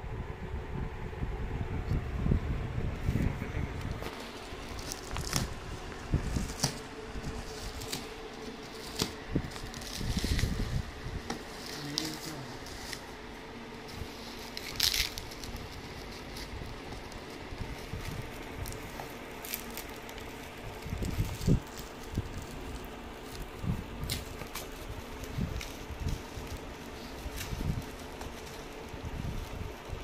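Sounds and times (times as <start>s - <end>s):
plastic wrap crinkling: 4.0s - 30.0s.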